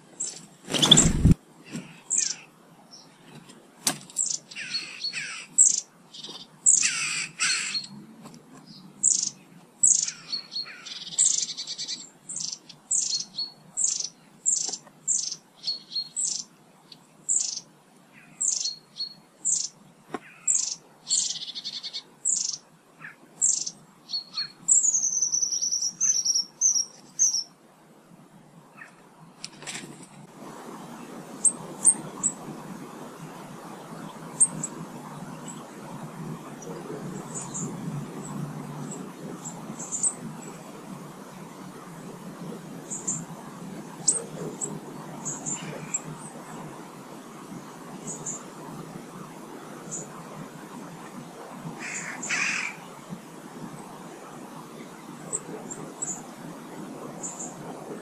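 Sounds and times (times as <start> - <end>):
birds chirping: 0.0 - 27.6, 30.8 - 53.2, 53.8 - 58.0.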